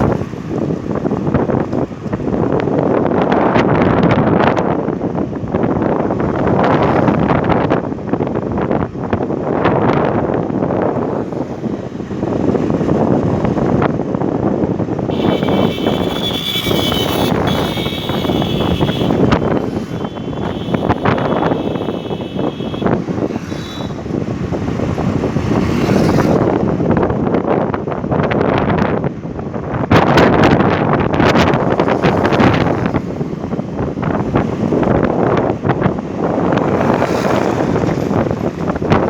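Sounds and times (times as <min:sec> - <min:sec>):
vehicle noise: 0:00.0 - 0:39.0
wind buffeting microphone: 0:00.0 - 0:39.0.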